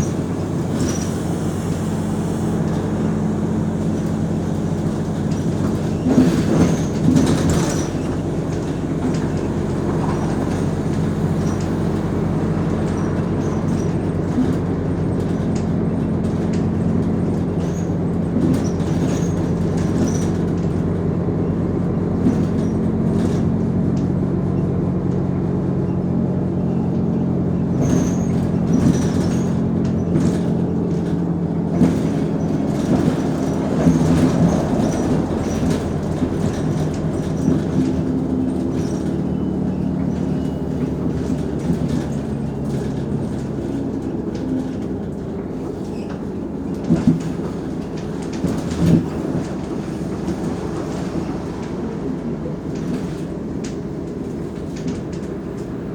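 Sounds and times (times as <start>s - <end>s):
bus body rattling: 0.0s - 55.9s
bus diesel engine running: 0.0s - 55.9s.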